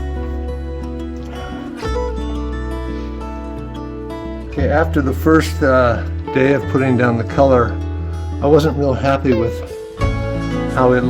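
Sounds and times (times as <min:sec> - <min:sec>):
instrumental music: 0:00.0 - 0:11.0
sustained low bass: 0:00.0 - 0:11.0.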